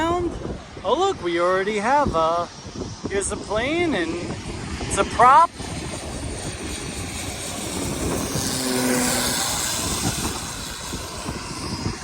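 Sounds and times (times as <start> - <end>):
propeller airplane passing overhead: 0.0 - 12.0.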